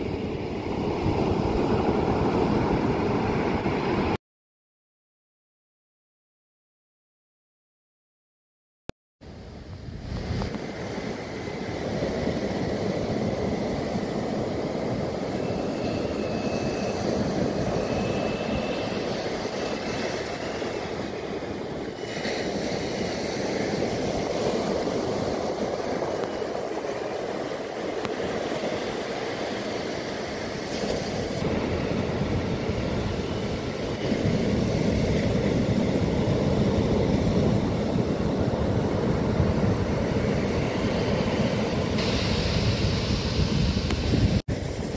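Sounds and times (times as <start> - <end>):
ocean surf breaking: 0.0 - 4.2, 10.0 - 44.9
wind buffeting microphone: 0.0 - 4.2, 9.5 - 44.9.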